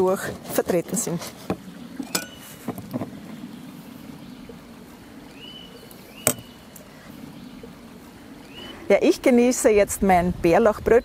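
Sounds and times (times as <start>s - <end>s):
low outdoor rush: 0.0s - 11.0s.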